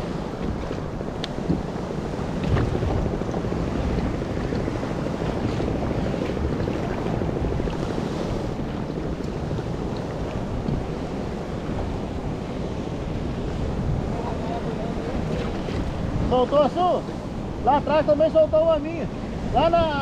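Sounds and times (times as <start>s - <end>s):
waves washing and splashing: 0.0s - 20.0s
wind blowing on microphone: 0.0s - 20.0s.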